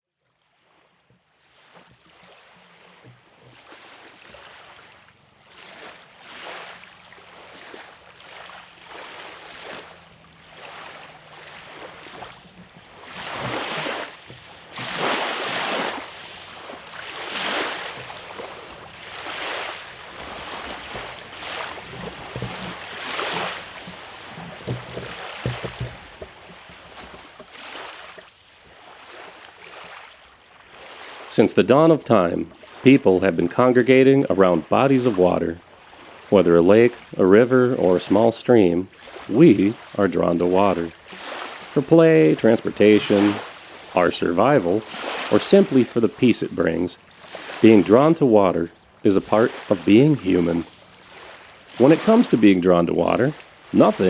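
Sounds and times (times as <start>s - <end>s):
waves washing on shore: 0.5s - 54.0s.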